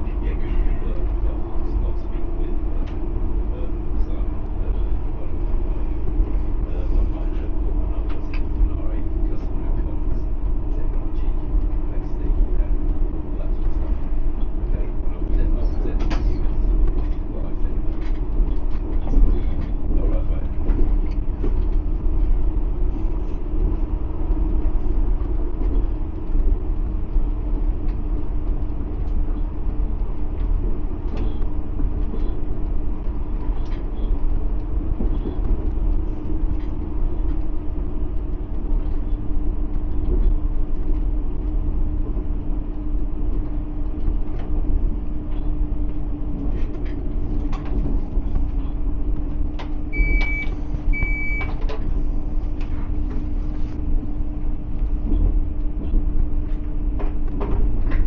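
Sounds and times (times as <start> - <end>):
constant hum: 0.0 - 58.0
vehicle running rumble: 0.0 - 58.0.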